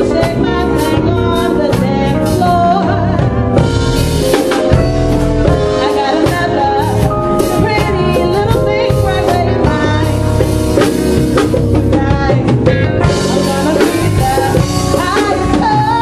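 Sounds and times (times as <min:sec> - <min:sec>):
woman singing: 0:00.0 - 0:03.6, 0:05.5 - 0:10.6, 0:11.4 - 0:16.0
soul band playing: 0:00.0 - 0:16.0.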